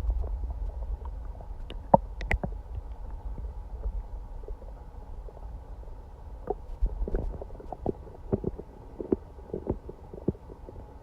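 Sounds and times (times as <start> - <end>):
stomach gurgling and rumbling: 0.0 - 11.0.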